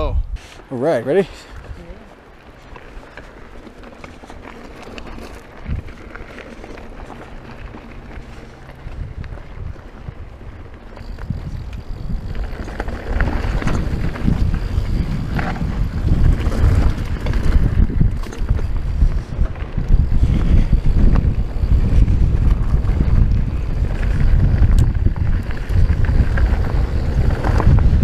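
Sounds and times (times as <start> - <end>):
bike clicks and rattles: 1.4 - 28.0
wind buffeting microphone: 1.5 - 28.0.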